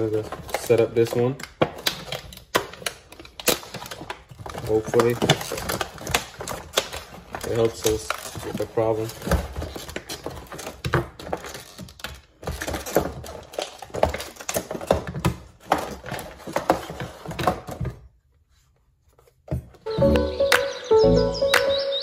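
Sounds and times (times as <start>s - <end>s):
plastic and paper crinkling: 0.0s - 19.9s.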